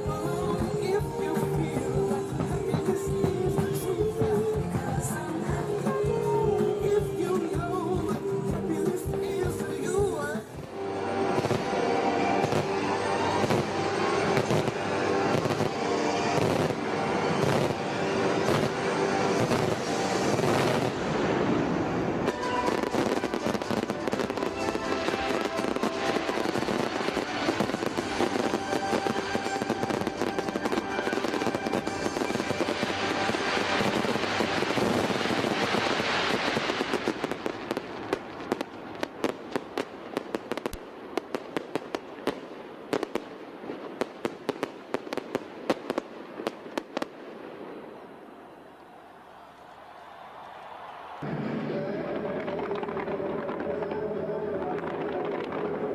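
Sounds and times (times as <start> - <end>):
fireworks crackling and popping: 0.0 - 48.0, 49.6 - 55.9.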